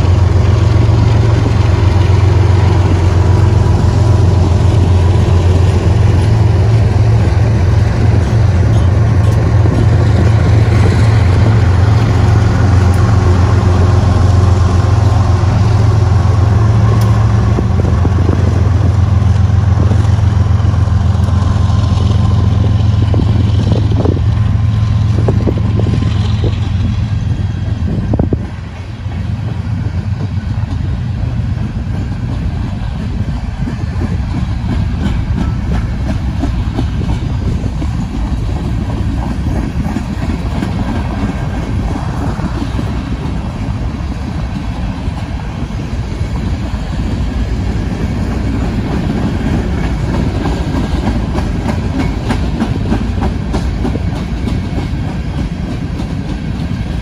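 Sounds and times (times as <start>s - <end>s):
diesel engine low hum: 0.0s - 53.9s
train wheel rumble: 0.0s - 57.0s
wheels clacking over rail joints: 0.0s - 57.0s.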